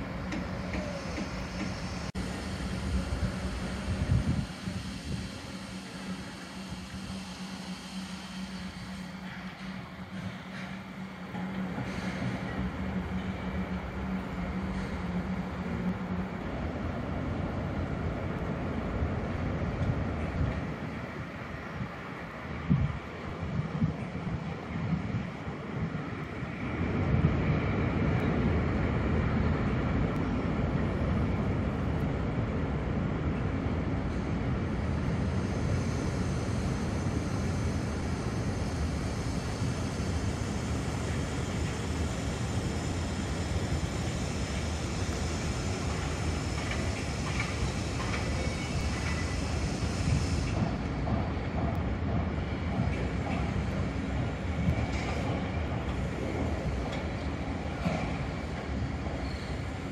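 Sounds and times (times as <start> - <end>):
freight train rumbling on bridge: 0.0 - 59.9.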